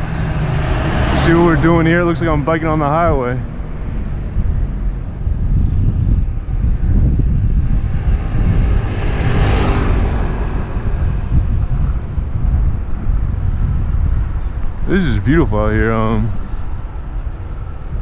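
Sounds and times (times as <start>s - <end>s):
motor vehicle passing: 0.0s - 18.0s
wind rumbling on microphone: 0.0s - 18.0s.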